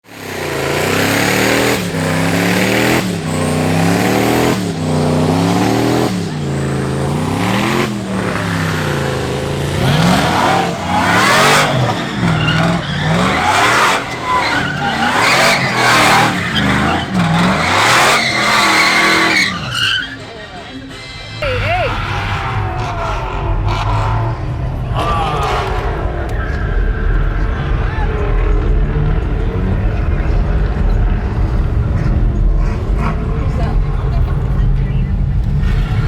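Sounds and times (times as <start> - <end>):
truck engine revving hard: 0.0 - 36.0
tyres squealing in a burnout: 0.1 - 30.6.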